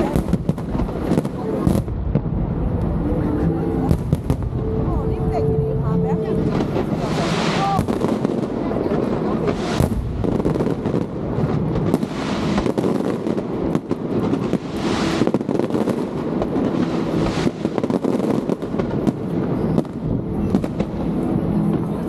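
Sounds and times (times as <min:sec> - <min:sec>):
heavy firework bursts: 0:00.0 - 0:02.8, 0:06.4 - 0:22.0
fireworks crackling: 0:00.0 - 0:05.3, 0:06.2 - 0:22.0.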